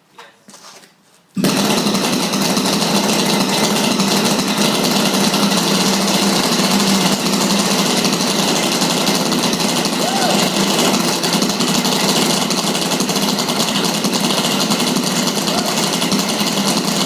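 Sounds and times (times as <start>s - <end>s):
small gasoline engine running: 1.4s - 17.0s.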